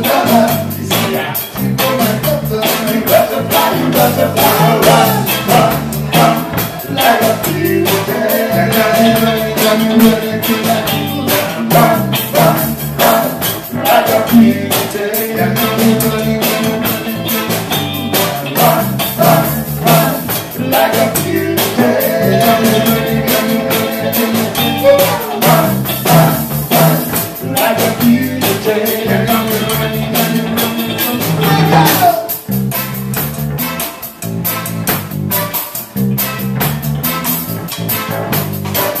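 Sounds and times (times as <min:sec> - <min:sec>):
man singing: 0:00.0 - 0:32.4
reggae band playing: 0:00.0 - 0:39.0.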